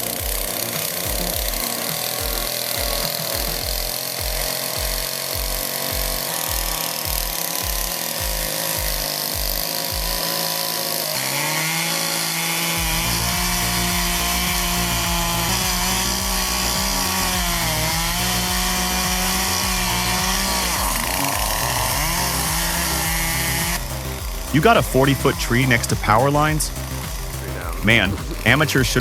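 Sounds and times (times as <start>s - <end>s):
small engine cutting wood: 0.0s - 29.0s.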